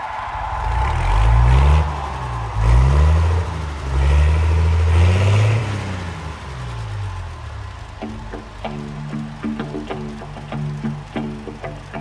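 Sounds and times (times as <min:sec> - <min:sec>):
model train wheels rumbling: 0:00.0 - 0:12.0.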